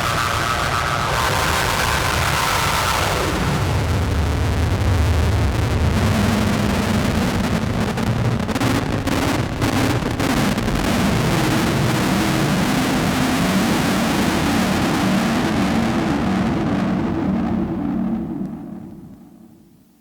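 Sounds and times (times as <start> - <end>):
deep rumble: 0.0 - 19.7
dense wash of noise: 0.0 - 19.8.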